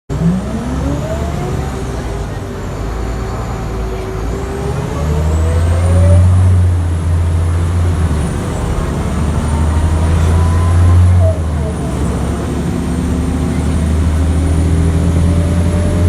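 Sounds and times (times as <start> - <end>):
bus engine drone: 0.1 - 16.0.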